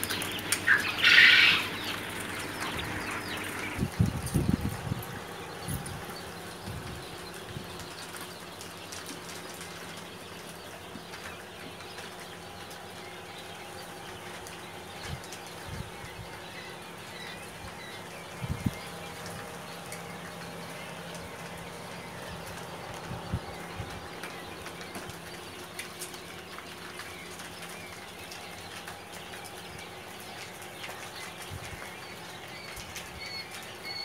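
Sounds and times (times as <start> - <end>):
steady hum: 0.0 - 33.6
birds chirping: 0.0 - 34.0.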